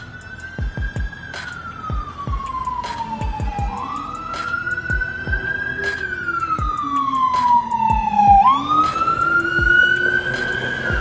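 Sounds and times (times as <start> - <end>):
emergency siren wailing: 0.0 - 11.0.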